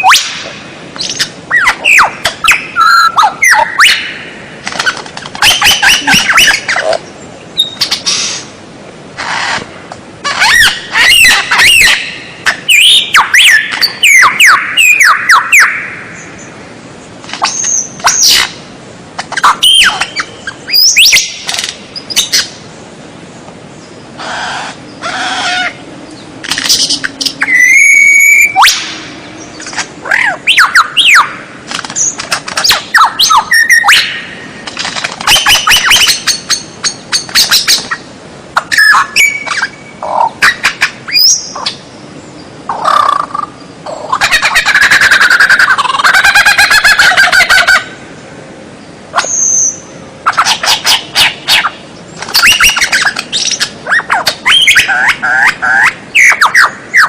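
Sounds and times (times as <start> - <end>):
songbird singing varied song: 0.0 - 8.5, 10.3 - 57.0.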